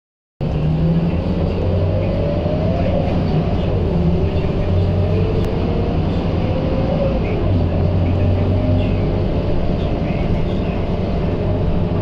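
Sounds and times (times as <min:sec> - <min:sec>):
bus engine drone and road noise: 0:00.4 - 0:12.0
rising engine whine: 0:00.4 - 0:12.0.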